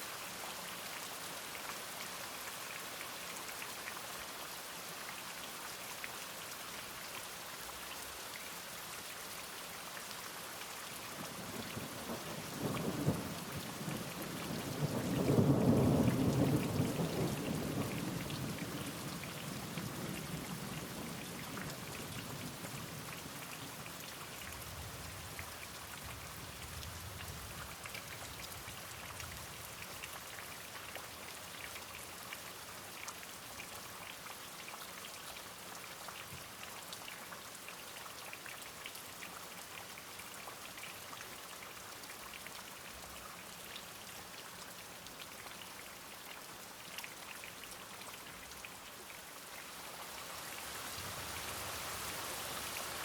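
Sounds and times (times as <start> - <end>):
rain drops ticking: 7.7 - 53.0.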